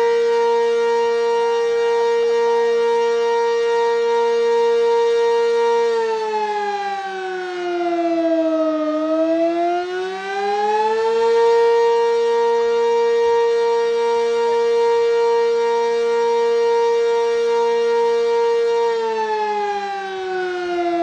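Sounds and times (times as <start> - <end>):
warning siren: 0.0 - 21.0.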